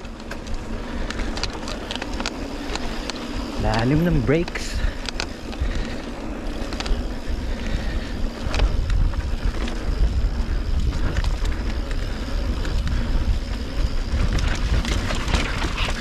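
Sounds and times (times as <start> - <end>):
bike knocks and rattles: 0.0 - 16.0
bike tyres on dirt: 0.0 - 16.0
wind rumbling on microphone: 0.0 - 16.0.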